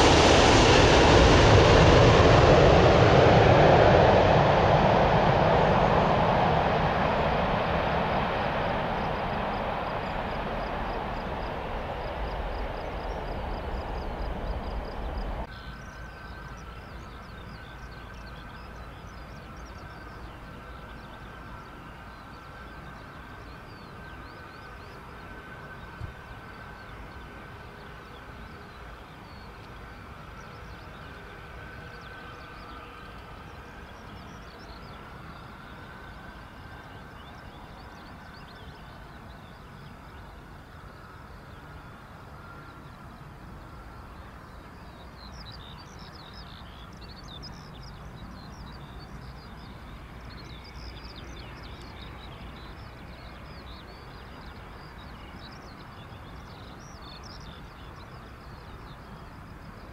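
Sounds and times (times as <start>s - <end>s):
loud jet noise of landing: 0.0s - 17.7s, 19.2s - 59.9s
jet engine whine: 0.0s - 59.9s.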